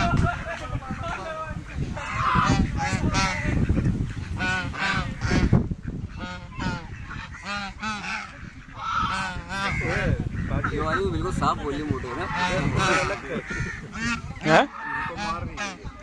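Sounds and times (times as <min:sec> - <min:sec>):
waterfowl flock honking: 0:00.0 - 0:16.0.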